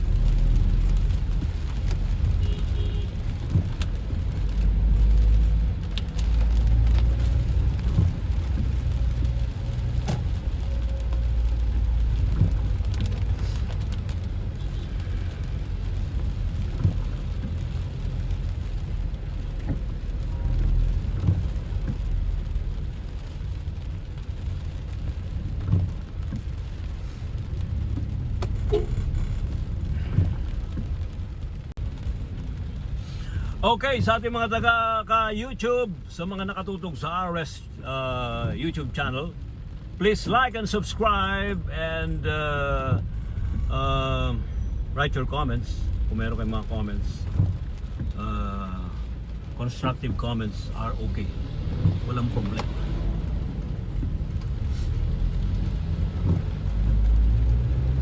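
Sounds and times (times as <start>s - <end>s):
engine and road rumble: 0.0s - 58.0s
rain falling on car: 0.0s - 58.0s.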